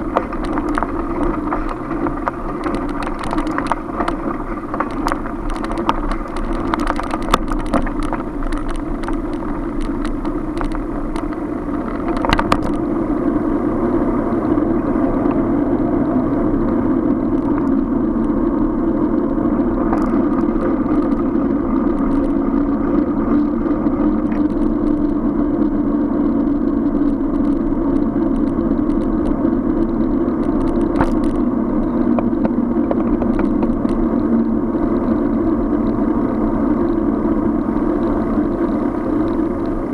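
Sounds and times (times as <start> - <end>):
bicycle clicks and rattles: 0.0 - 39.9
car traffic: 0.0 - 39.9
road rumble: 0.0 - 39.9.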